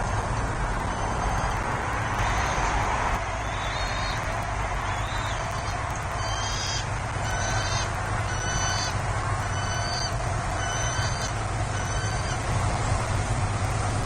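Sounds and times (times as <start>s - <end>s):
low background rumble: 0.0s - 14.0s
eagle piping calls: 0.8s - 12.5s.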